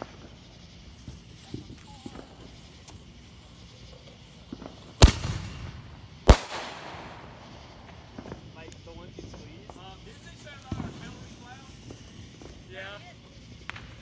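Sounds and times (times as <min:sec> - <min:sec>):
loud firework bangs: 0:00.0 - 0:12.8, 0:13.4 - 0:14.0
small firework pops: 0:00.0 - 0:14.0.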